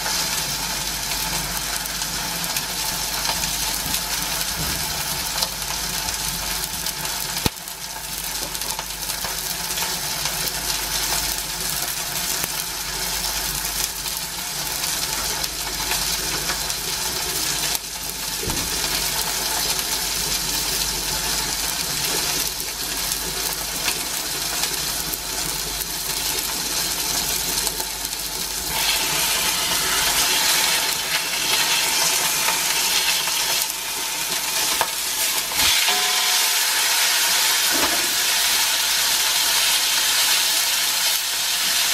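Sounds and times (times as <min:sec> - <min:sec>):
steak sizzling in a frying pan: 0:00.0 - 0:41.9.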